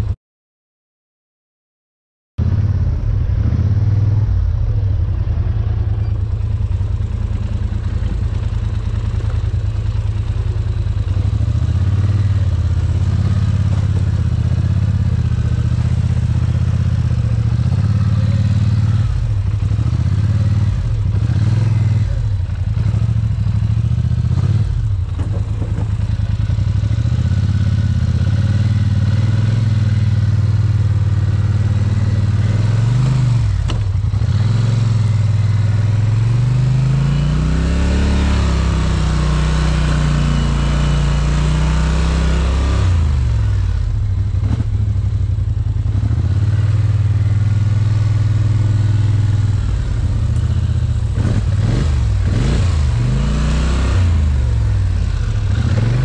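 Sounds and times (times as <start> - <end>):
atv engine under throttle: 2.4 - 56.0.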